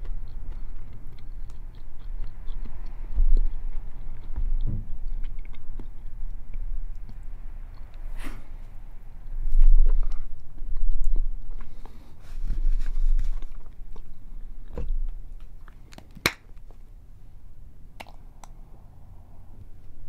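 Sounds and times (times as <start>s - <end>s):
close chewing with wet crackles: 0.0s - 8.1s, 8.7s - 16.8s, 17.9s - 18.6s.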